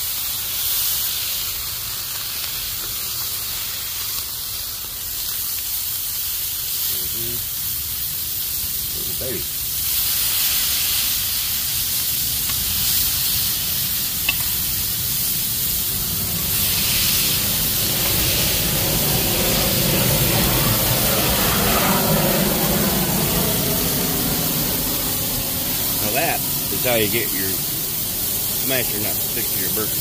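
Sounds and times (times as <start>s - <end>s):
meat sizzling on a griddle: 0.0s - 30.0s.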